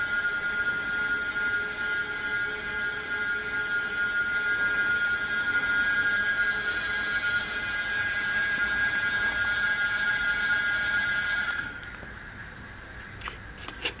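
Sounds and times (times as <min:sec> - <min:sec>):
electric motor whine: 0:00.0 - 0:12.2.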